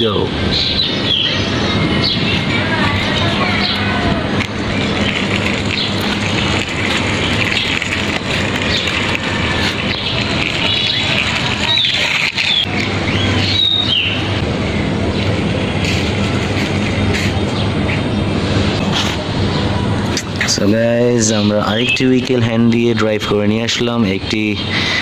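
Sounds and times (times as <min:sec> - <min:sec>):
low hum: 0:00.0 - 0:23.3
birds chirping: 0:00.0 - 0:25.0.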